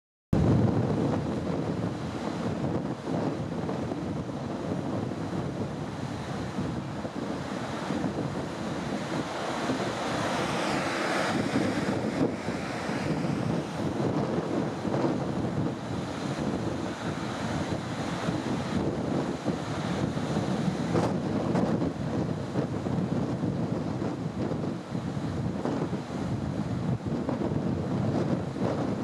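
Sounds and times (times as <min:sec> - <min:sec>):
surf breaking on rocky shore: 0:00.4 - 0:29.0
wind buffeting microphone: 0:00.4 - 0:29.0.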